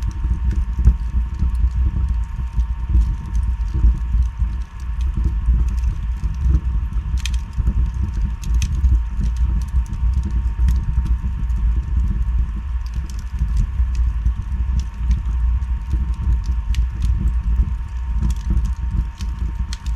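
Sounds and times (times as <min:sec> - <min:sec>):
faint high hum: 0:00.0 - 0:19.9
fire crackling and popping: 0:00.0 - 0:19.9.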